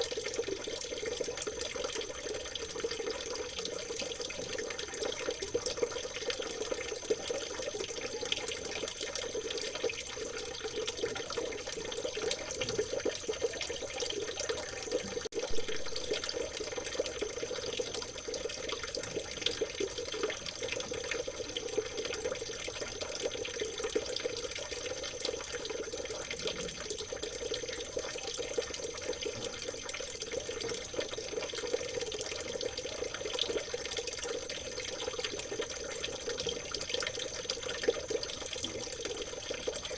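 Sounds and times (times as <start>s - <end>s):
water babbling in a river: 0.0s - 39.9s.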